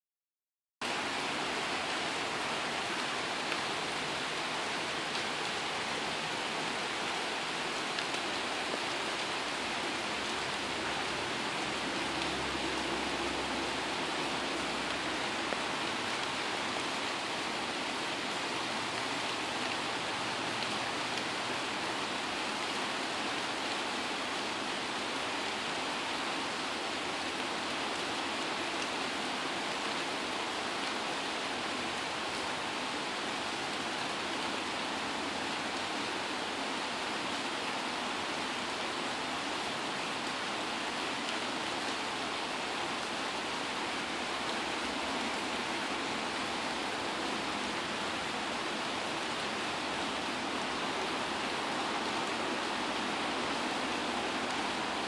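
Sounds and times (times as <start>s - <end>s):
rain pattering on leaves: 0.8s - 55.0s.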